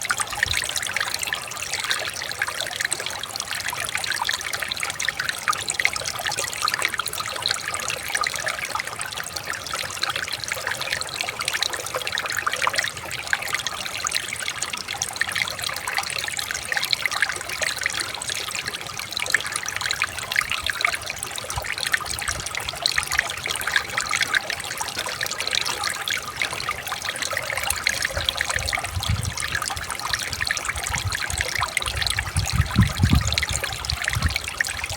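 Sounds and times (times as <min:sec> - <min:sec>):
river water babbling: 0:00.0 - 0:34.9.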